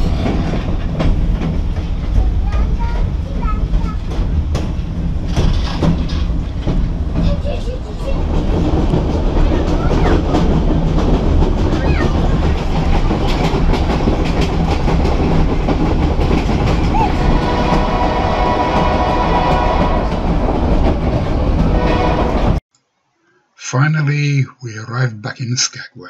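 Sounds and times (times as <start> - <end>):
train car rumble and clickety-clack: 0.0 - 22.6.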